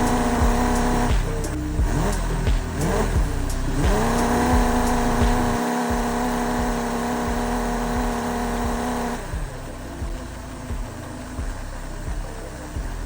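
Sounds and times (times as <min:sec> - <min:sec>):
model engine whine: 0:00.0 - 0:13.0.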